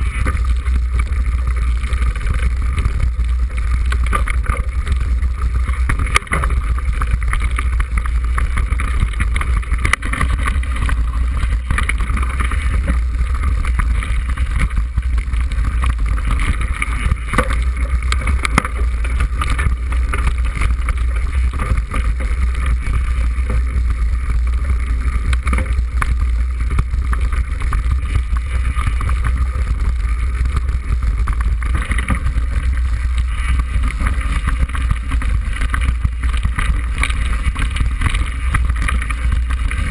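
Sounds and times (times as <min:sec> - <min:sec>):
bike knocks and rattles: 0:00.0 - 0:39.9
wind rumble on microphone: 0:00.0 - 0:39.9.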